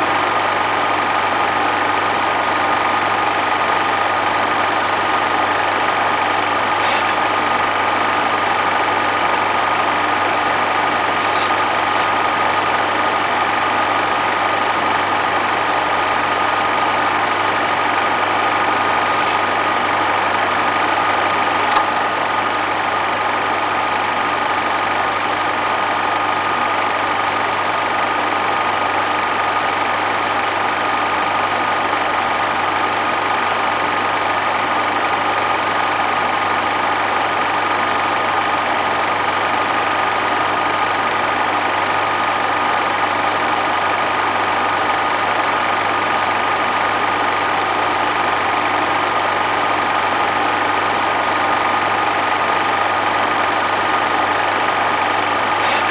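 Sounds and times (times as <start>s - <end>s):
film projector whirring: 0.0s - 55.9s.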